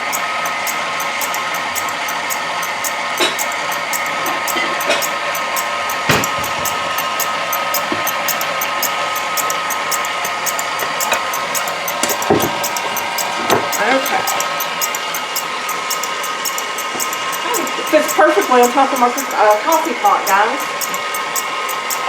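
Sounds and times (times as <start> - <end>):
stand mixer motor whining: 0.0 - 22.0.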